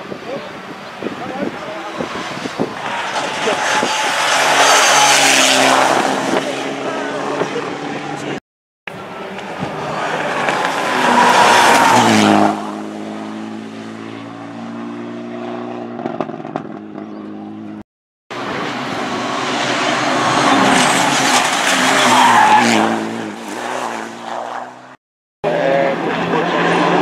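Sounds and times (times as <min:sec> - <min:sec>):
rally car engine passing: 0:01.6 - 0:08.4, 0:09.0 - 0:17.8, 0:18.4 - 0:24.8, 0:25.5 - 0:27.0.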